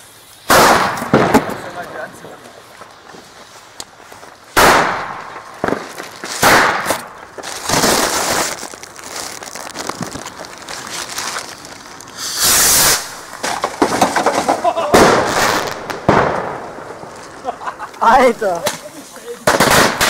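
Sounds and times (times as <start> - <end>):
fireworks hissing crackle: 0.0 - 20.0
fireworks bangs: 0.4 - 11.0, 11.7 - 20.0.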